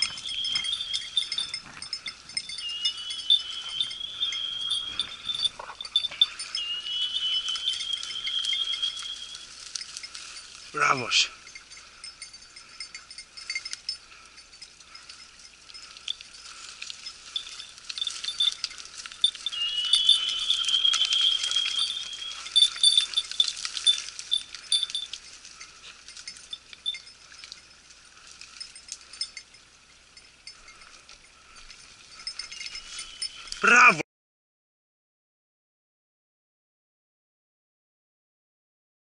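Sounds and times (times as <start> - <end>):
thin high tone: 0.0 - 27.8, 28.5 - 34.0
dog bell jingling: 0.0 - 34.0.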